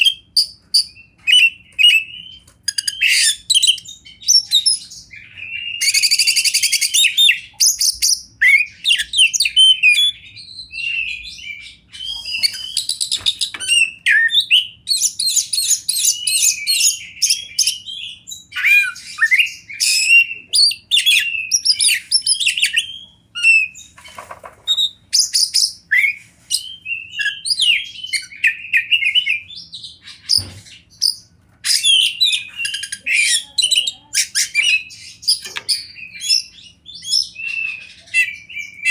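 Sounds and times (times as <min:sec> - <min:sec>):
bird singing whistles and trills: 0:00.0 - 0:23.9, 0:24.7 - 0:38.9.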